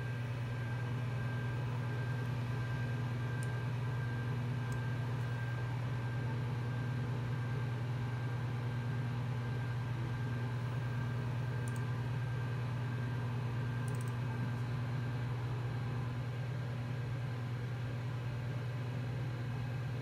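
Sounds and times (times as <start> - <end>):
computer fan and hard drive hum: 0.0 - 20.0.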